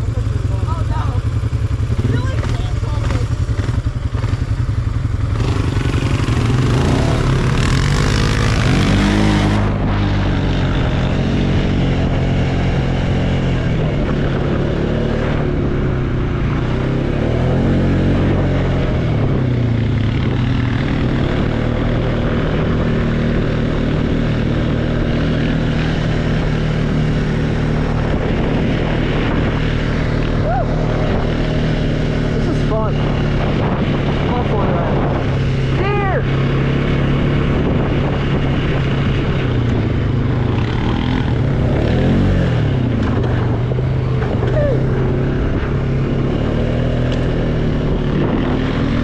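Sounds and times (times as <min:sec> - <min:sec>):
atv engine revving: 0:00.0 - 0:49.0.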